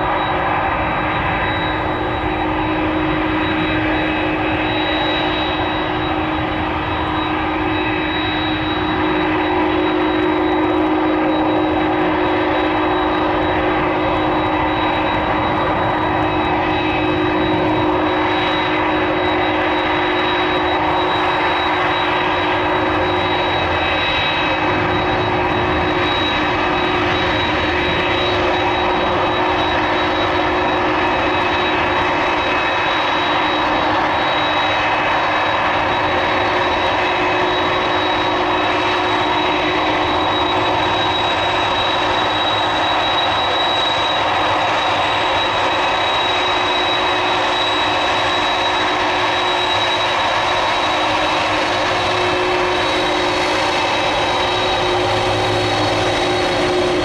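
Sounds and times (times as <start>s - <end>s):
high jet engine whine: 0.0s - 57.0s
jet engines roaring: 0.0s - 57.0s.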